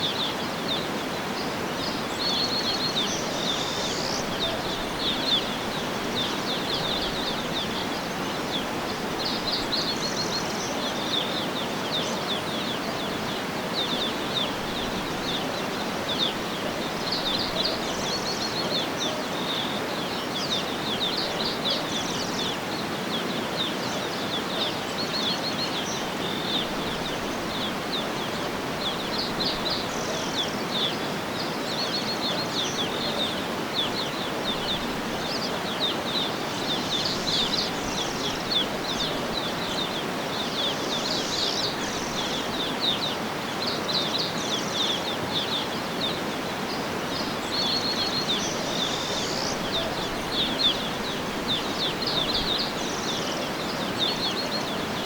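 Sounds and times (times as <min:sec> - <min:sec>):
outdoor ambience hiss: 0:00.0 - 0:55.0
small birds chirping: 0:00.0 - 0:55.0.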